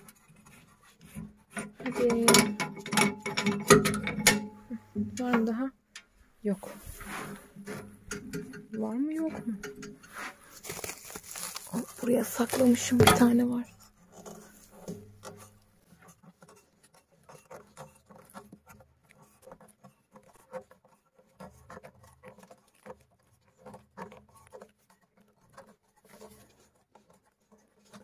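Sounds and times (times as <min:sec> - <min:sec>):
fingers scraping feed: 0:00.0 - 0:04.7, 0:06.6 - 0:28.0
small taps and crumbly rustles: 0:05.0 - 0:28.0.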